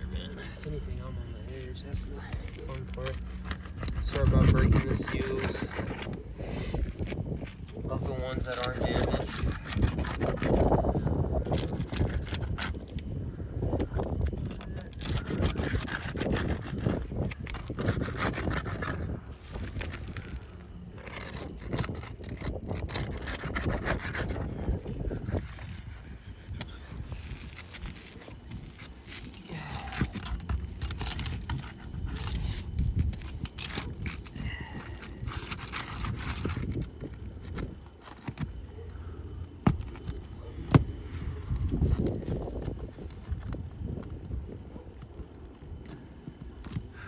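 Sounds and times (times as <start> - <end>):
roof shingles scraping and crackling: 0.0 - 47.0.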